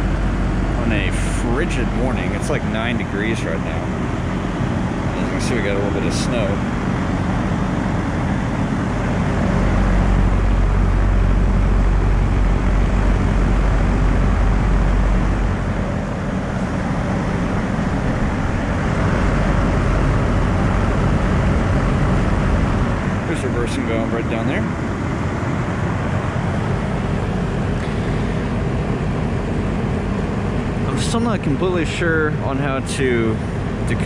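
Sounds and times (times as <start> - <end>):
heat pump fan rushing: 0.0 - 34.0.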